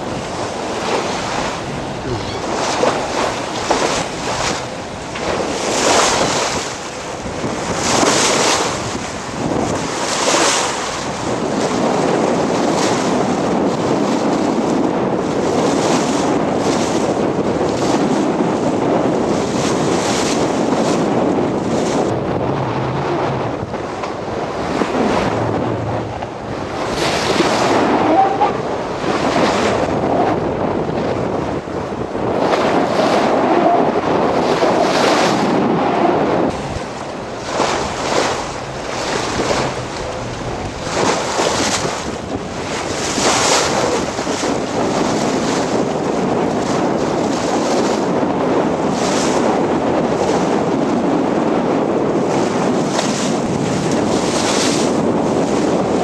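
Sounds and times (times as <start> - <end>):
choppy water sloshing: 0.0 - 56.0
wind on microphone: 0.0 - 56.0.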